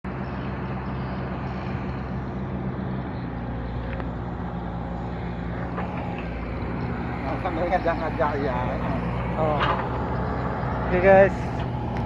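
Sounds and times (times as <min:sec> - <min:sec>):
diesel engine running: 0:00.1 - 0:12.0.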